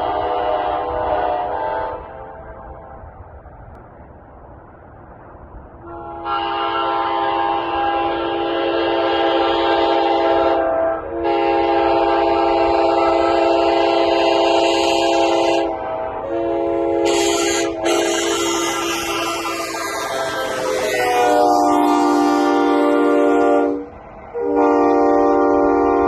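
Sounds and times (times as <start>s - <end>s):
train horn chord blasts: 0.0s - 3.0s, 5.8s - 26.0s.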